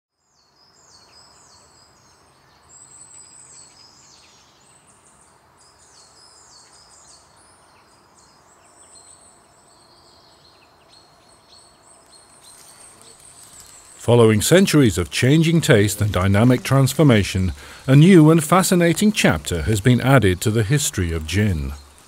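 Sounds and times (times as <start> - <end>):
faint birdsong chirps: 0.1 - 22.0
outdoor background hiss: 0.2 - 22.0.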